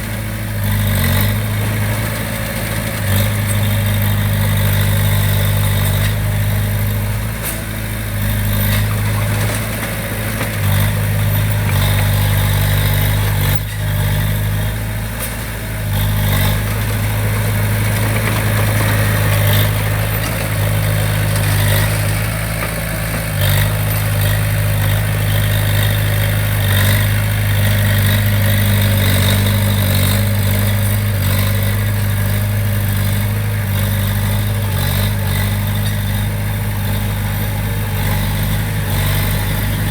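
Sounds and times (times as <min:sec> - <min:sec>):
construction machine diesel engine: 0:00.0 - 0:39.9.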